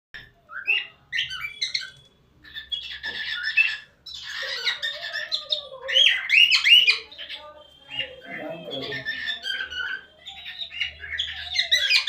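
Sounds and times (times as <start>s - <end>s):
cockatiel chirping: 0.2s - 12.0s.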